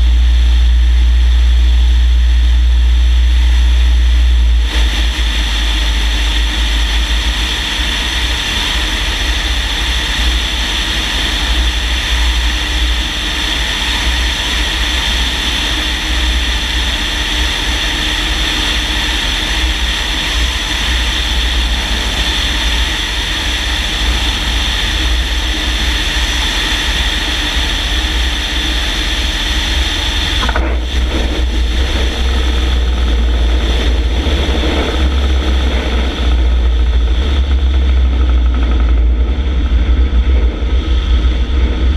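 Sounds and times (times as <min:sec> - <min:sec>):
propeller plane engine drone: 0:00.0 - 0:41.9
wind rushing over microphone: 0:03.4 - 0:41.9.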